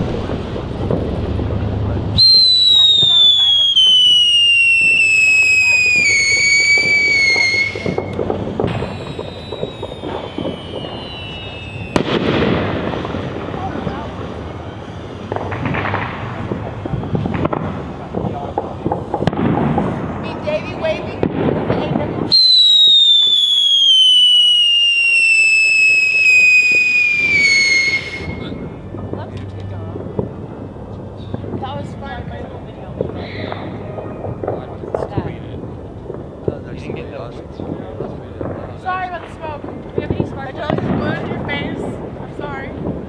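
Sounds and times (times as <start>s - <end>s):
firework crackling and popping: 0.0s - 43.0s
firework whistling: 0.0s - 43.0s.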